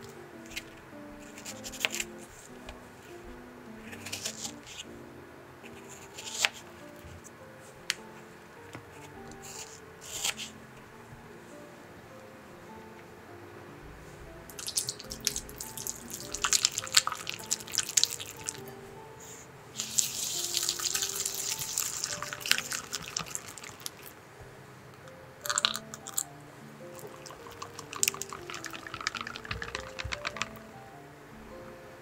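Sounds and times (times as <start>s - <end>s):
soft background music: 0.0s - 32.0s.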